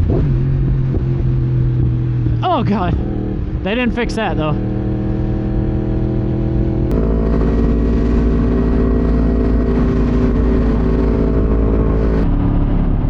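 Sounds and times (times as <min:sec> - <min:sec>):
motorcycle engine running: 0:00.0 - 0:13.0
wind and road rush: 0:00.0 - 0:13.0.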